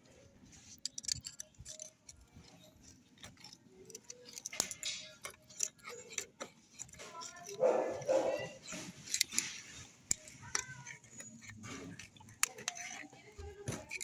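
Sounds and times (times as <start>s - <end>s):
metallic clicks of hand tools: 0.6s - 14.0s.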